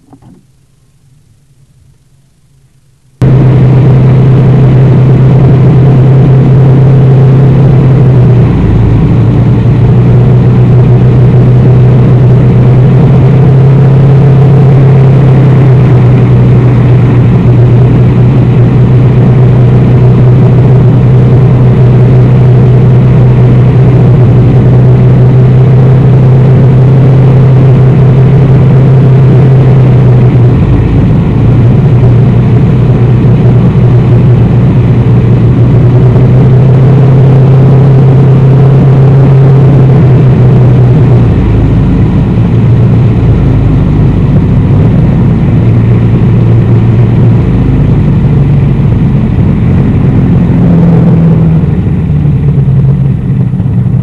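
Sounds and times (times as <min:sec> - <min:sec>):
constant low hum: 0:00.0 - 0:54.0
vehicle driving in heavy rain: 0:03.2 - 0:54.0.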